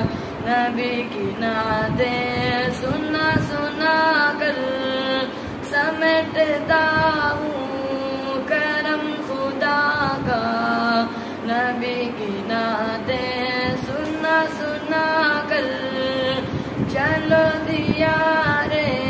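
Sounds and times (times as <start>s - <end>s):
boy singing unaccompanied: 0.0s - 19.0s.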